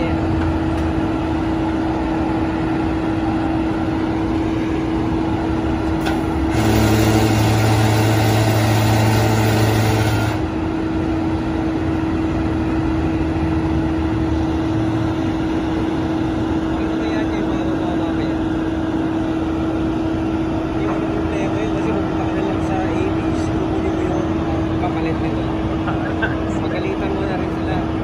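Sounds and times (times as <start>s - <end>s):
deep hydraulic drone: 0.0s - 28.0s
truck engine humming: 0.0s - 28.0s.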